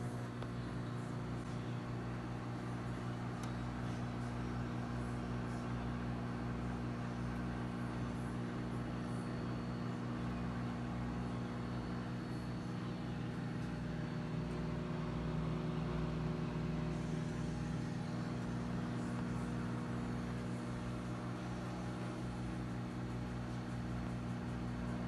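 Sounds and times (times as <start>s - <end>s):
microwave oven mains hum: 0.0s - 25.0s.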